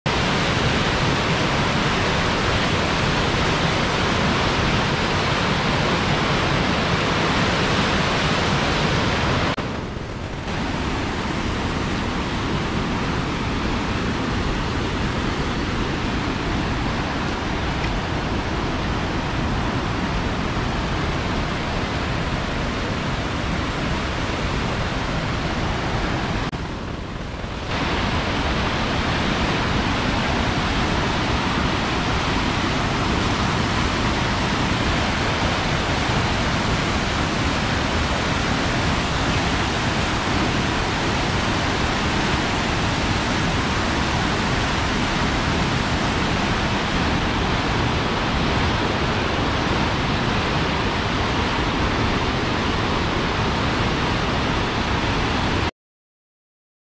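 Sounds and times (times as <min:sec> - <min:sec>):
river rushing over rapids: 0:00.1 - 0:55.7.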